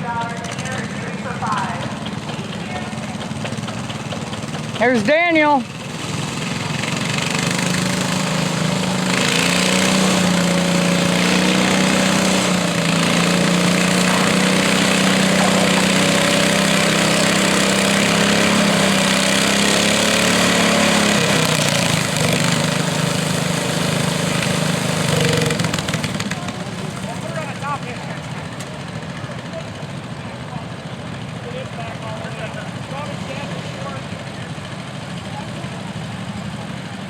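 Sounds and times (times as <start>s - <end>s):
garden tractor engine running: 0.0s - 37.0s.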